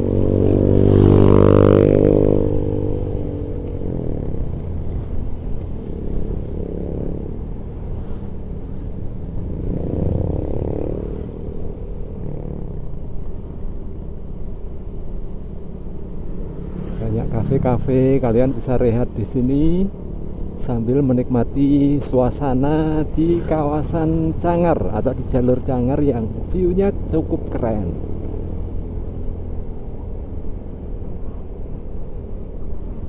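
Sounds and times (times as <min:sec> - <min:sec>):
engine and road noise: 0:00.0 - 0:33.0
vehicle engine passing: 0:00.0 - 0:33.0.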